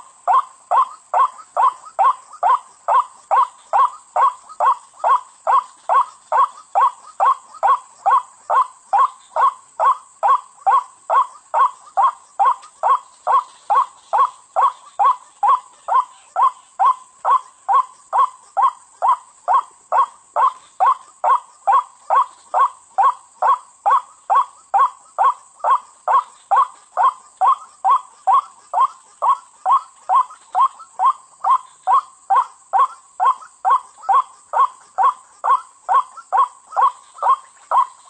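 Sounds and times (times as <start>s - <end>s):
bird harsh repeated call: 0.0s - 38.0s.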